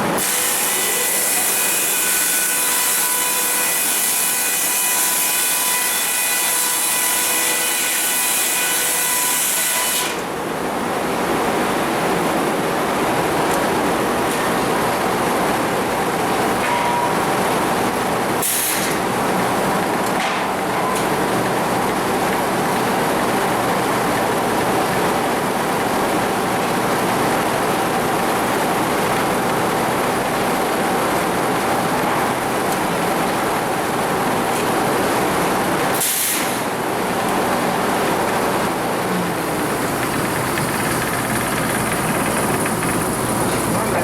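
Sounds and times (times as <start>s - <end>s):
constant machine whine: 0.0s - 44.0s
sawmill machinery running: 0.0s - 44.0s.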